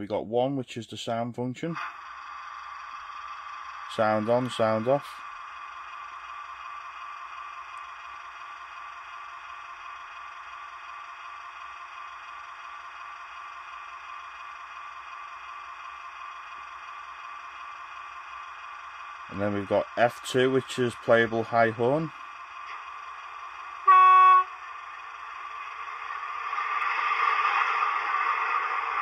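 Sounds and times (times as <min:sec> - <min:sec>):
model train diesel idle sound: 0:00.6 - 0:26.5.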